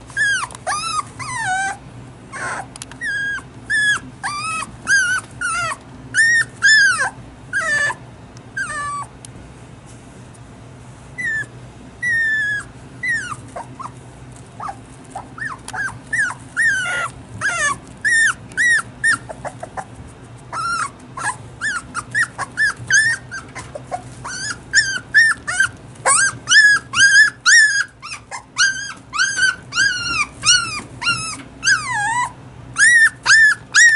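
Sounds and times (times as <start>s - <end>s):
puppy whining and crying: 0.0s - 9.2s, 11.2s - 14.0s, 14.6s - 33.9s.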